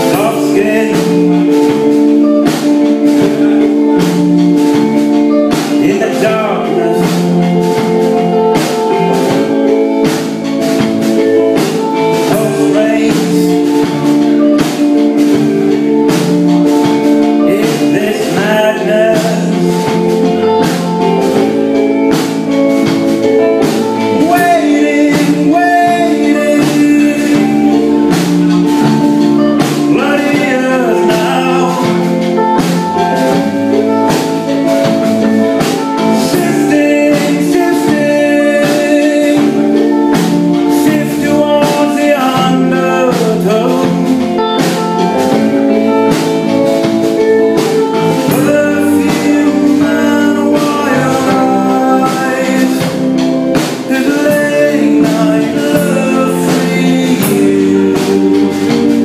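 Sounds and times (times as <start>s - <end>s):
drum kit beats: 0.0s - 59.0s
electric guitars: 0.0s - 59.0s
man singing: 0.0s - 59.0s.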